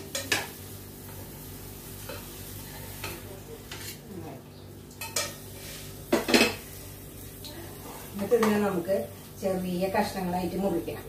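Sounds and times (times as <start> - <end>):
oil sizzling in a pan: 0.0 - 4.0, 4.7 - 11.0.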